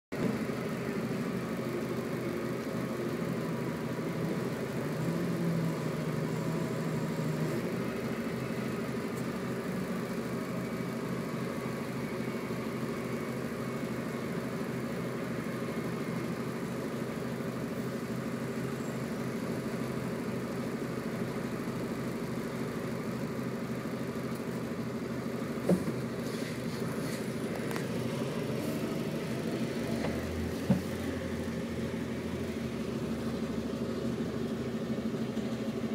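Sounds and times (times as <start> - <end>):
garbage truck engine running: 0.1 - 35.9.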